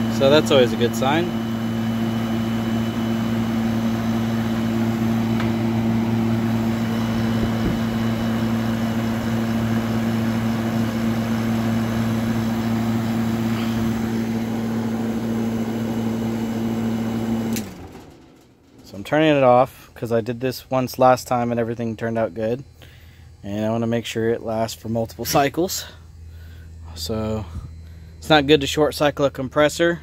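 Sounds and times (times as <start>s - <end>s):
compressor humming: 0.0s - 30.0s.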